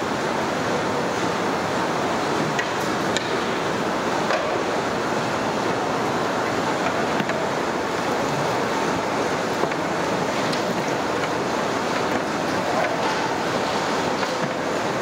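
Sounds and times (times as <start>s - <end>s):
pot of water boiling hard: 0.0s - 15.0s.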